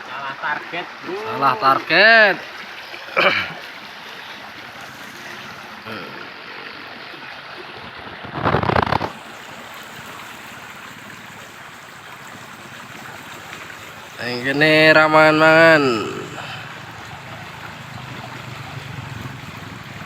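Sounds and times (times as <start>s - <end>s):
flooded river rushing: 0.0s - 20.0s.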